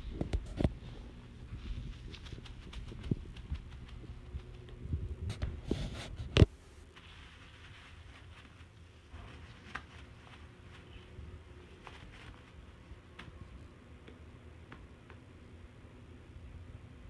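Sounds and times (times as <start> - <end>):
rustling near microphone: 0.0 - 13.7.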